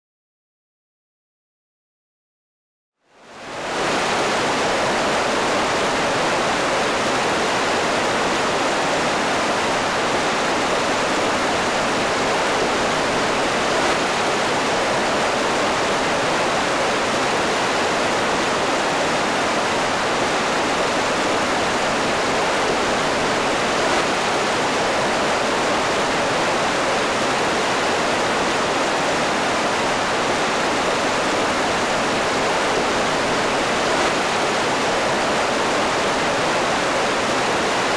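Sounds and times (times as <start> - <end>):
water rushing over boulders: 3.3 - 37.9.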